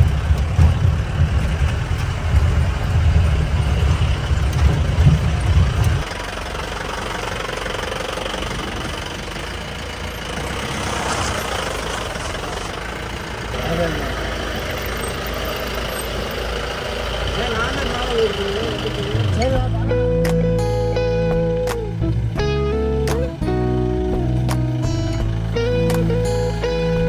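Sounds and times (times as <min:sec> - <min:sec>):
engine low rumble: 0:00.0 - 0:27.0.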